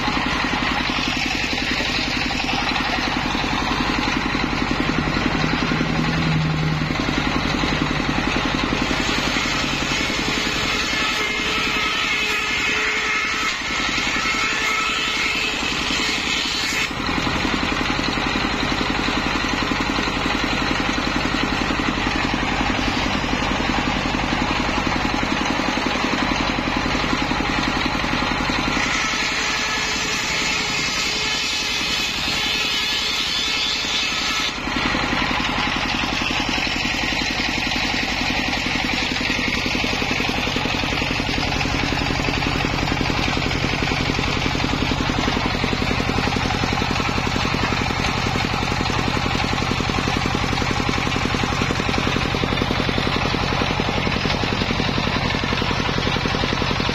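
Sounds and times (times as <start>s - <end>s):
diesel engine running: 0.0s - 13.0s, 16.9s - 56.9s
circular saw cutting bamboo: 0.0s - 56.9s.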